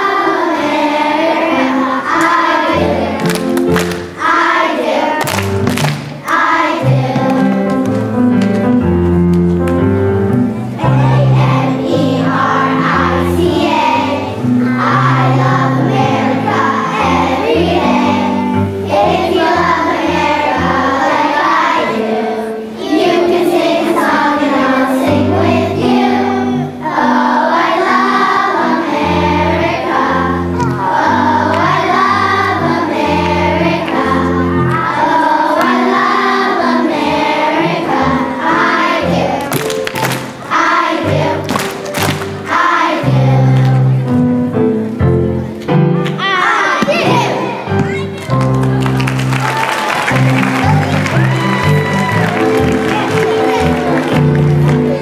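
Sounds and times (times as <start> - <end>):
young children singing: 0.0 - 8.3, 10.5 - 44.2, 46.1 - 47.9, 50.7 - 55.0.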